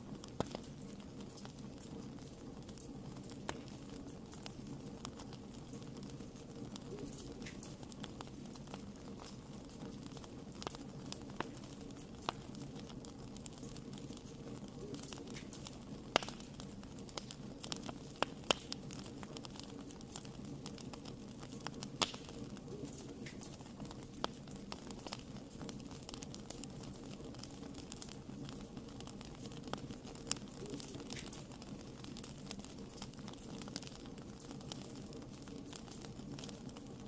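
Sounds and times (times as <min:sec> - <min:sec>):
low rumble of flames: 0:00.0 - 0:37.0
wood fire crackling and popping: 0:00.0 - 0:37.0.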